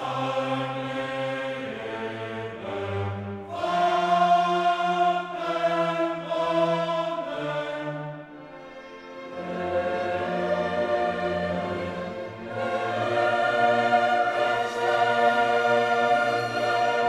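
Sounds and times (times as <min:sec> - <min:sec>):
choir singing held chords: 0:00.0 - 0:17.0
orchestra: 0:00.0 - 0:17.0.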